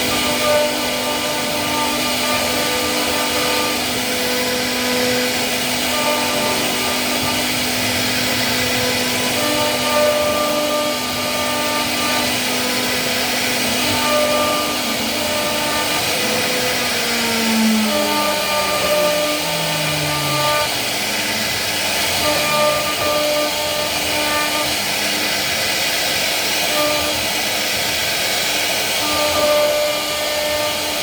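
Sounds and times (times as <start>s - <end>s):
wood router whirring: 0.0s - 31.0s.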